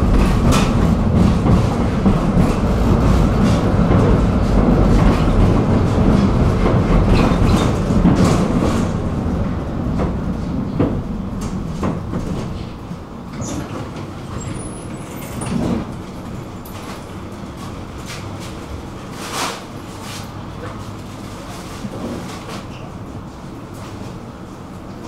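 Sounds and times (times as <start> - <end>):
tram rumbling on rails: 0.0 - 25.0.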